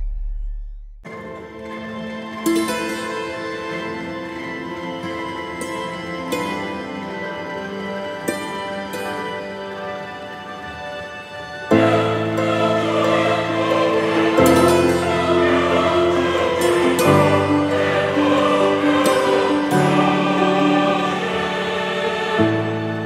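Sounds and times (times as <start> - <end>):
slow sustained music chords: 1.0 - 23.0.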